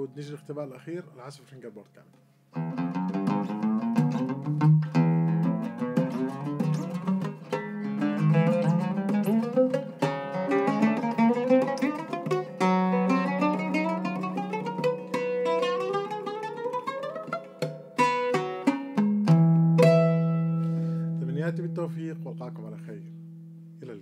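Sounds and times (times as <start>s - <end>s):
oud plucked with a plectrum: 2.5s - 24.0s.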